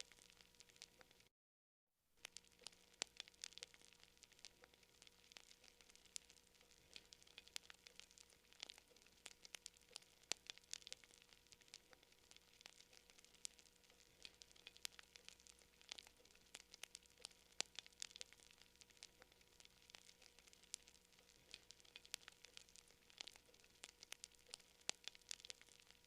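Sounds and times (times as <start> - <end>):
campfire crackling: 0.0 - 1.3, 2.2 - 26.0.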